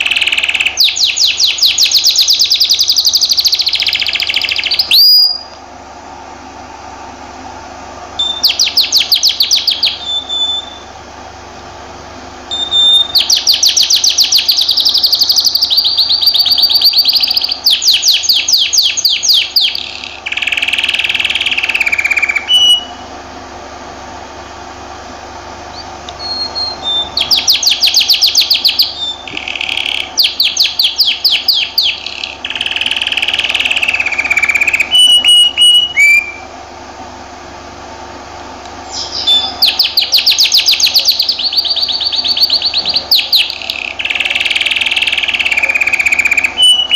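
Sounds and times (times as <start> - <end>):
canary singing trills: 0.0 - 5.6, 8.2 - 11.0, 12.5 - 23.2, 25.6 - 36.5, 38.8 - 46.9.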